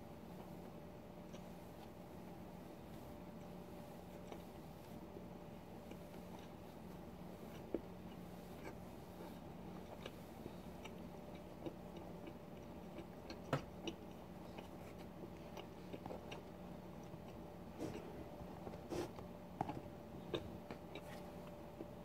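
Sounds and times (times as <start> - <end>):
quiet chewing: 0.3 - 22.0.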